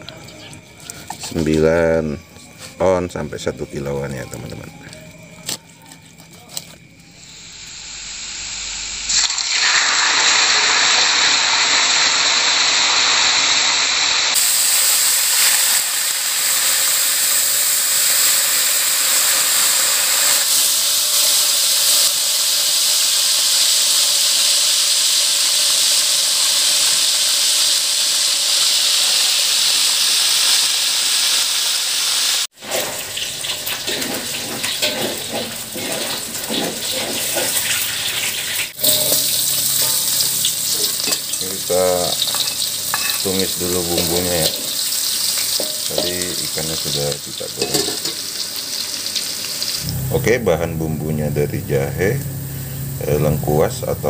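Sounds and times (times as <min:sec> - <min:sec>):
fish deep-frying in oil: 0:06.2 - 0:50.2, 0:52.0 - 0:54.0.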